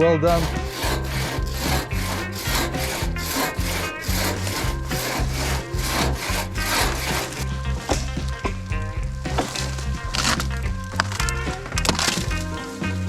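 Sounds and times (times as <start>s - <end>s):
hand saw cutting wood: 0.2s - 8.5s, 9.3s - 13.0s.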